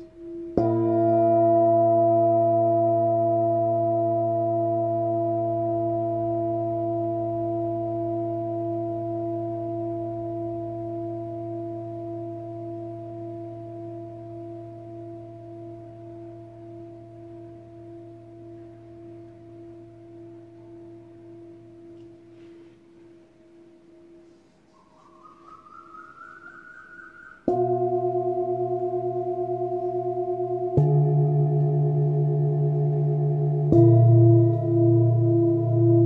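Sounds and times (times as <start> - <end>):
singing bowl ringing: 0.0 - 22.0, 24.8 - 36.0.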